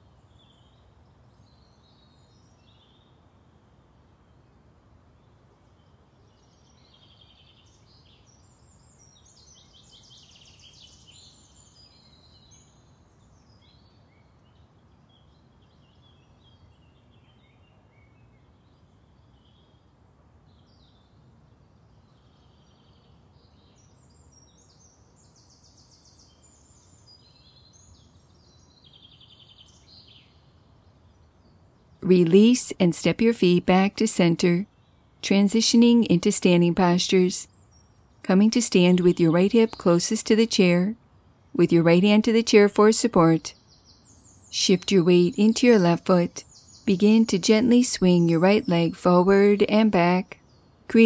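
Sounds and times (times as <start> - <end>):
small birds singing: 0.0 - 51.0.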